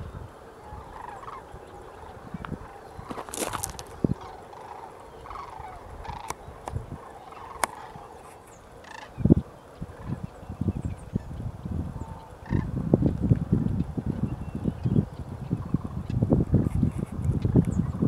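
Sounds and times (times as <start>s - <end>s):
cranes calling: 0.0s - 12.8s, 13.6s - 18.0s.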